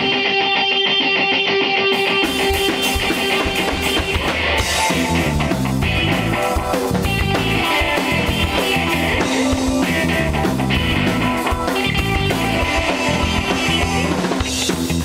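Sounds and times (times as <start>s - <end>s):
bass guitar: 0.0s - 15.0s
electric guitar: 0.0s - 15.0s
drum kit: 1.8s - 15.0s.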